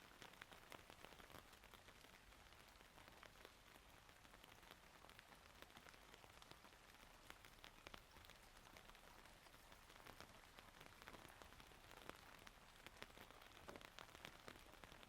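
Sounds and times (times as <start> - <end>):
raindrops ticking: 0.0 - 15.0
soft rain hiss: 0.0 - 15.0.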